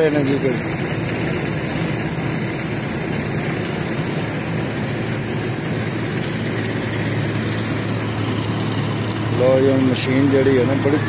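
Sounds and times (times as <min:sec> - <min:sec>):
paving machine engine humming: 0:00.0 - 0:11.0.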